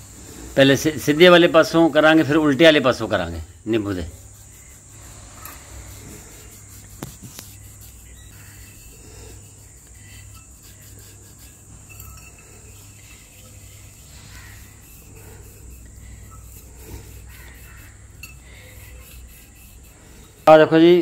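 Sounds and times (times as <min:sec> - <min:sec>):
lemon rubbing brass bowl: 0:00.3 - 0:21.0.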